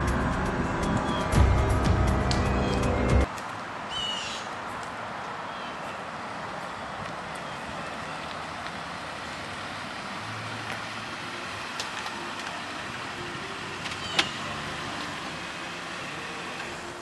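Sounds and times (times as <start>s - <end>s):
street background hiss: 0.0s - 17.0s.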